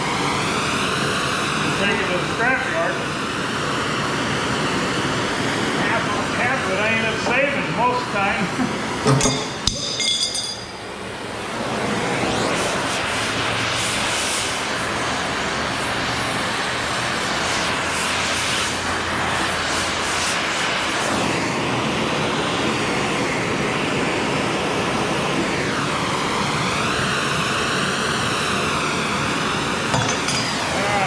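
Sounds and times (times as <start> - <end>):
jet-like roar with hiss: 0.0 - 9.1, 11.1 - 31.0.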